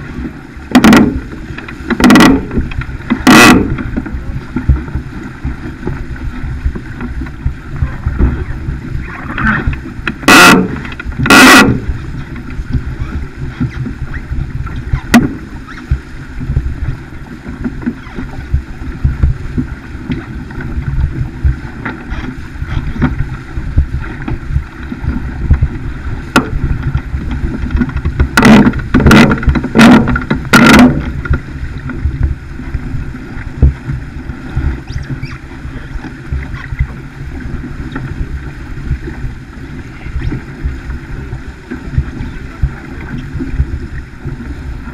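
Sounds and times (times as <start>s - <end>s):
water rushing along hull: 0.0s - 44.9s
waves splashing against hull: 0.0s - 44.9s
wind buffeting microphone: 0.0s - 44.9s.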